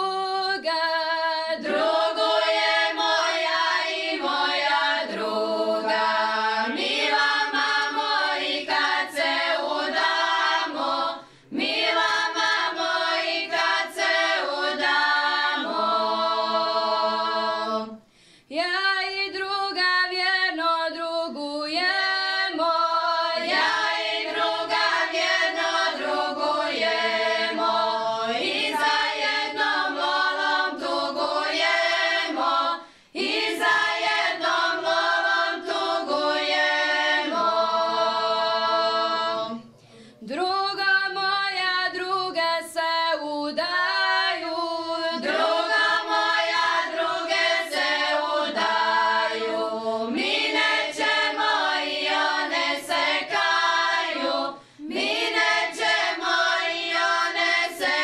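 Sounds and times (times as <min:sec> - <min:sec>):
women singing a cappella in parts: 0:00.0 - 0:58.0.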